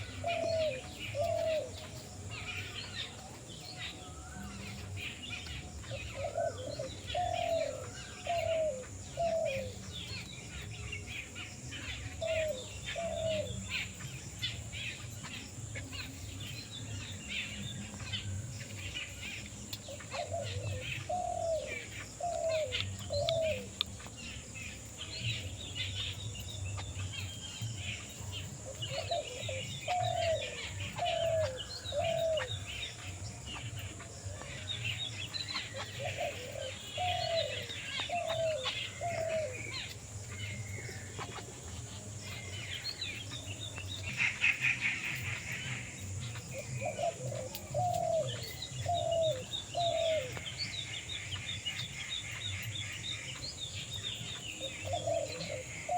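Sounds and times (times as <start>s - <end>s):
birds chirping and twittering: 0.0s - 55.9s.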